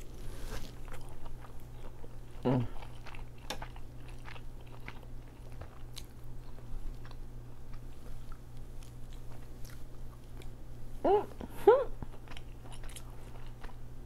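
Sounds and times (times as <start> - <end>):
chewing noodles: 0.0 - 10.6, 12.0 - 13.8
steady low hum: 0.0 - 14.0.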